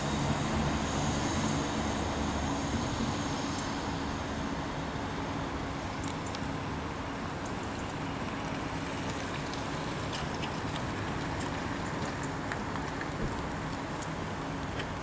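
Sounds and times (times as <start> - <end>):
train engine hum: 0.0 - 15.0.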